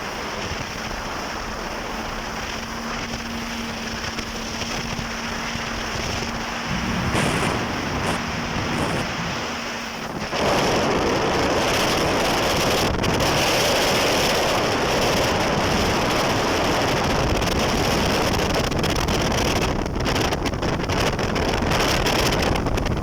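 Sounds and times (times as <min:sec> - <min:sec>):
water rushing: 0:00.0 - 0:19.3
jet ski engine: 0:00.0 - 0:23.0
wind buffeting microphone: 0:00.0 - 0:23.0.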